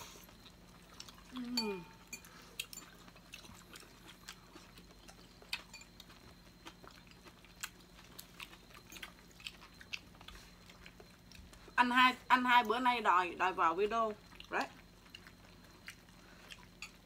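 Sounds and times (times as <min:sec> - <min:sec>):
people chewing noodles: 0:00.0 - 0:11.8, 0:12.6 - 0:17.0.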